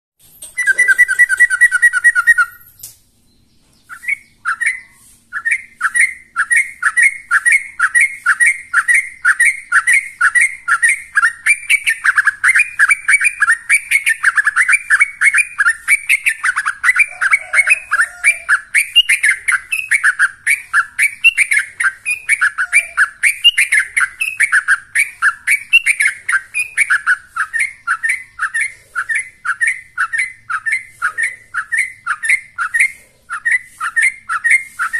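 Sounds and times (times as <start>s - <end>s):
bird singing rapid chirps: 0.4s - 34.9s.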